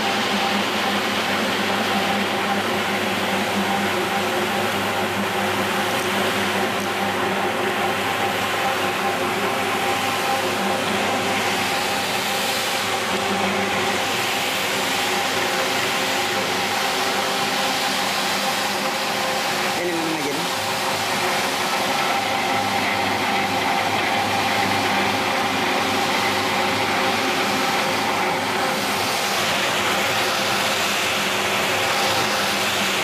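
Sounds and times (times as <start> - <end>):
carpet washing machine whirring: 0.0 - 33.0.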